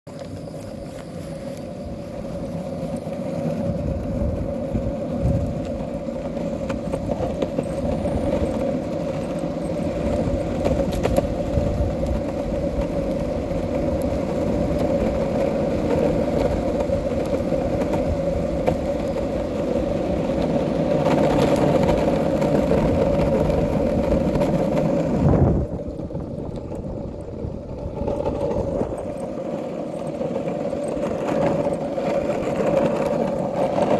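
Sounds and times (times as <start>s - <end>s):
longboard wheels rolling on asphalt: 0.1s - 33.9s.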